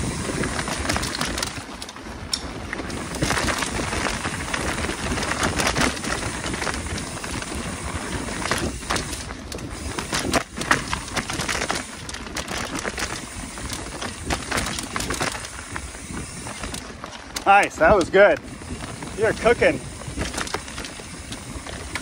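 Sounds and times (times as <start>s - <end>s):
bike knocks and rattles: 0.0s - 22.0s
wind and tyre rush: 0.0s - 22.0s.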